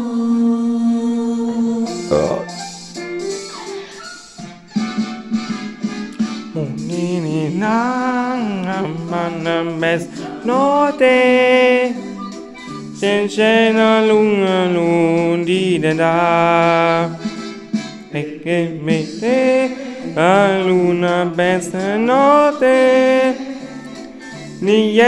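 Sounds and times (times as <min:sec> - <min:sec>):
person singing on television: 0:00.0 - 0:03.0, 0:03.9 - 0:25.0.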